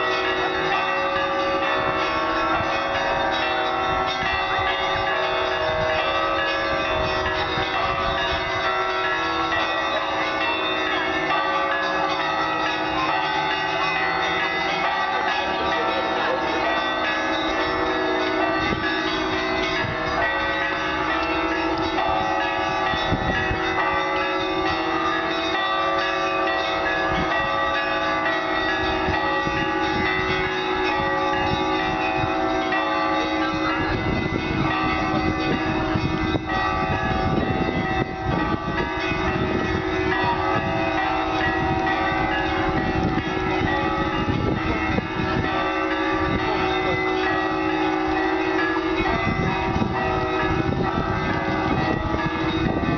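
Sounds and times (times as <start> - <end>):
church bells ringing: 0.0 - 52.9.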